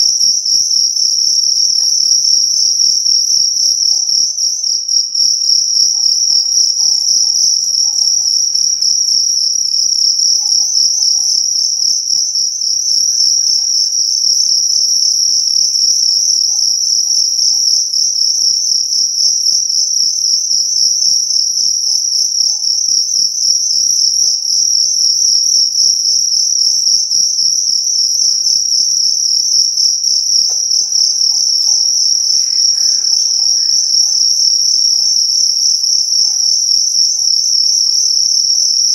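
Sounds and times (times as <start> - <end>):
crickets chirping trill: 0.0 - 38.9.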